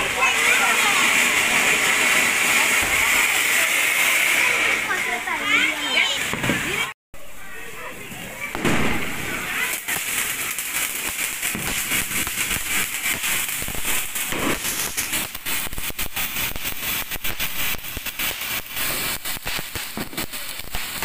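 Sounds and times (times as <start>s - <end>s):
fireworks hissing and crackling: 0.0s - 21.0s.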